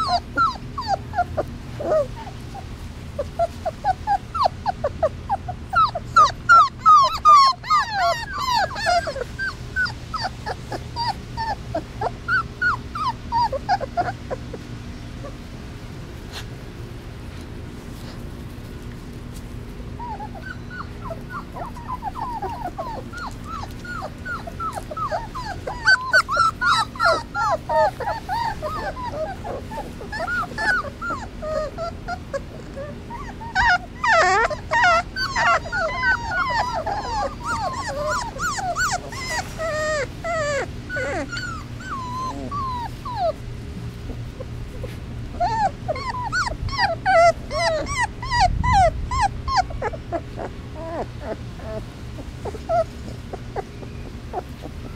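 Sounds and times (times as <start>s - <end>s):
puppies whimpering and crying: 0.0s - 54.9s.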